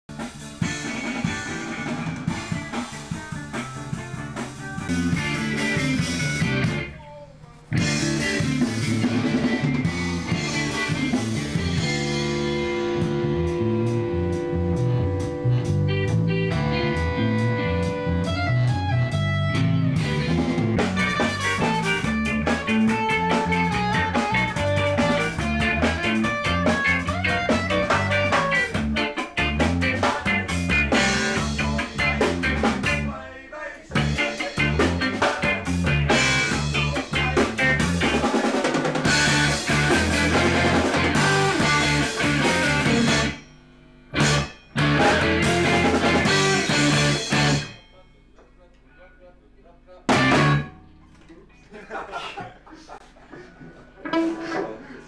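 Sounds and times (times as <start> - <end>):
ska-punk band playing: 0.1 - 7.0, 7.6 - 47.9, 50.0 - 51.0, 54.0 - 55.0.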